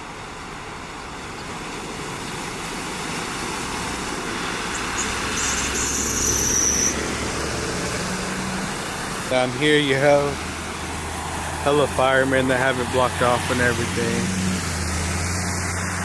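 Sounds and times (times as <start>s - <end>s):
vehicle driving past: 1.6s - 16.0s.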